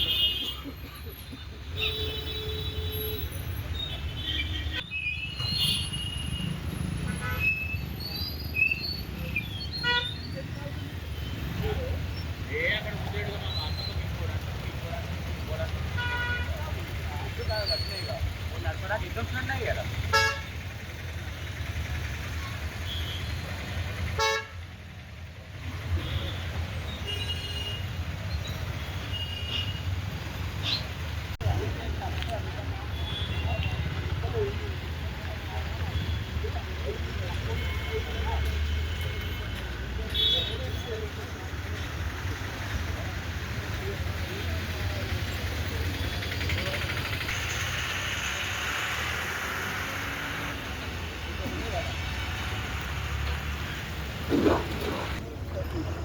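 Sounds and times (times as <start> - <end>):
vehicle engines rumbling: 0.0 - 56.0.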